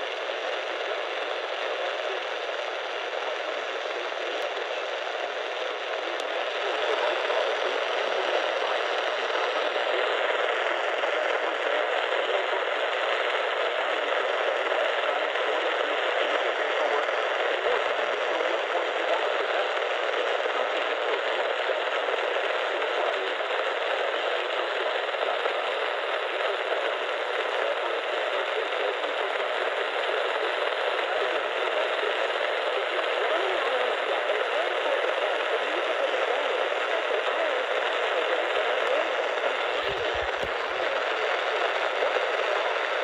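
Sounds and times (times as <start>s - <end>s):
radio static hissing: 0.0s - 43.0s.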